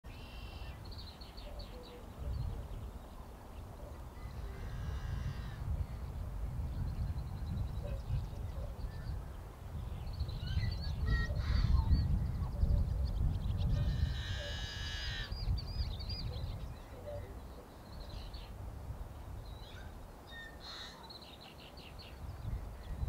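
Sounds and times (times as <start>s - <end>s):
wind buffeting microphone: 0.7s - 20.3s, 21.8s - 23.0s.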